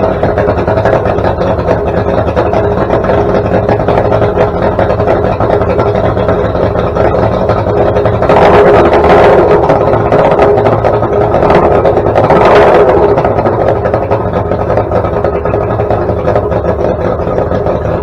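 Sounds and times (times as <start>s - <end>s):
outboard motor idling and revving: 0.0s - 18.0s.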